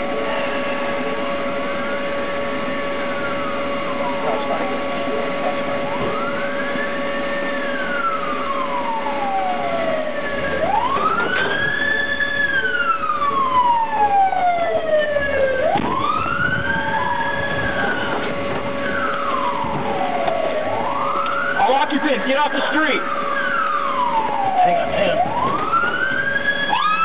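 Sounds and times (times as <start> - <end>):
steady hum: 0.0 - 26.9
police siren wailing: 0.0 - 27.0.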